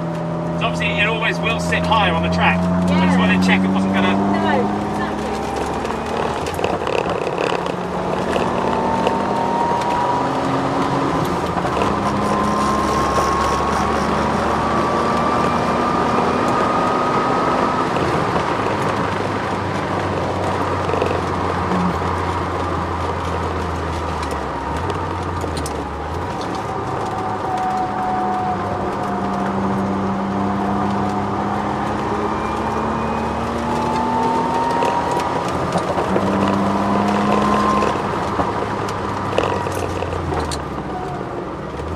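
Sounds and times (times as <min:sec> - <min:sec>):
car engine and road noise: 0:00.0 - 0:41.9
high drivetrain whine: 0:00.0 - 0:41.9.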